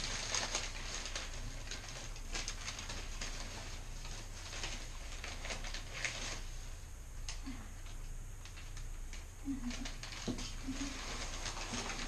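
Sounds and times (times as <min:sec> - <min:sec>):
newspaper rustling and crinkling: 0:00.0 - 0:06.8, 0:08.5 - 0:12.0.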